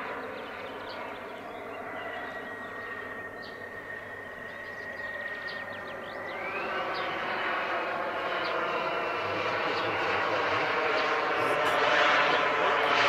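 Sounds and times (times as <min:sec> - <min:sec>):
model jet turbine whine: 0:00.0 - 0:13.0.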